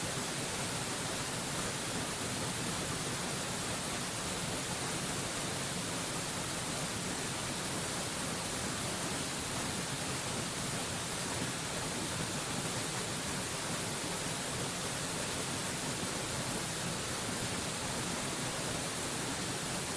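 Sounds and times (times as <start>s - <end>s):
waterfall rushing hiss: 0.0s - 19.9s.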